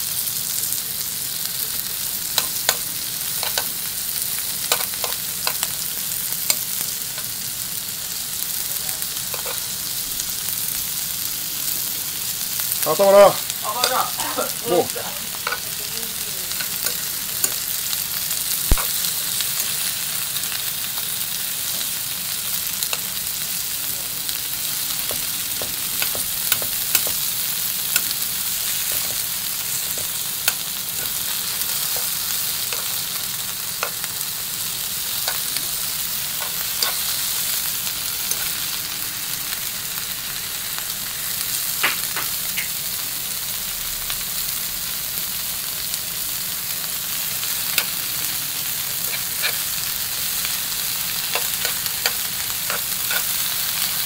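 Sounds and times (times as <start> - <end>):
sausage and onion sizzling: 0.0 - 54.0.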